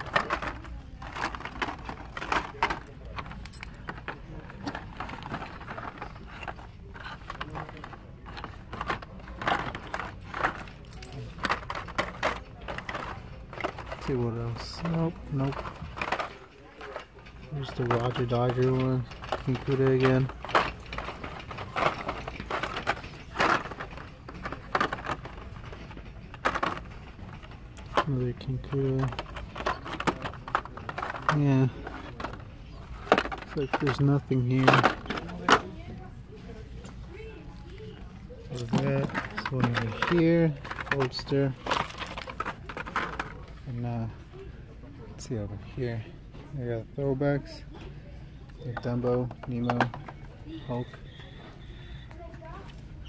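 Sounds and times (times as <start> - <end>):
plastic packages clicking and rattling: 0.0 - 44.6, 46.6 - 53.0.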